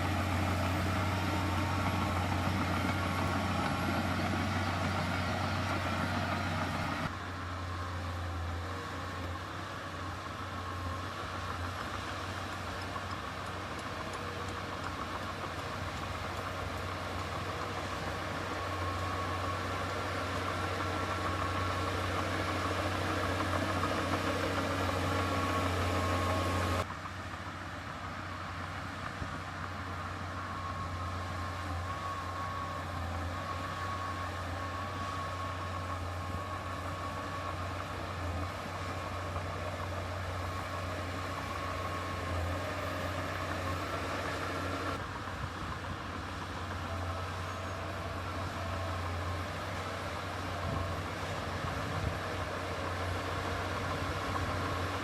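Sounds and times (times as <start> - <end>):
diesel machinery engine drone: 0.0 - 55.0
thin steady whine: 0.0 - 55.0.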